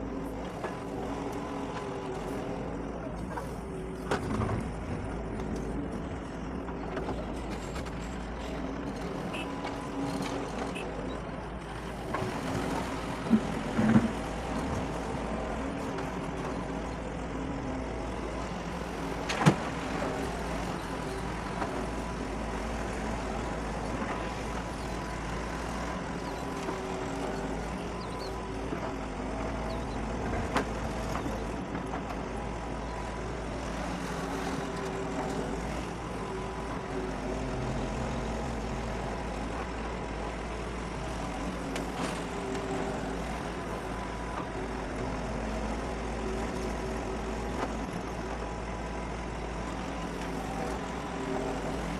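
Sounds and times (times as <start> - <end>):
excavator diesel engine: 0.0 - 51.9.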